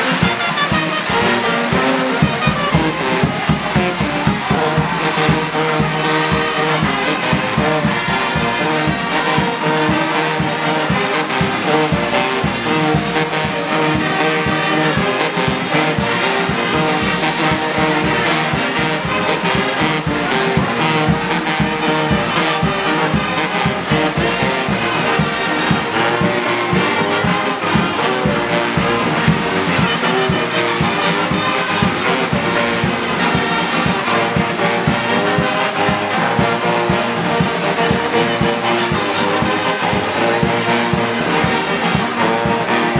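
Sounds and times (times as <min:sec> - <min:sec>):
brass band playing: 0:00.0 - 0:42.9.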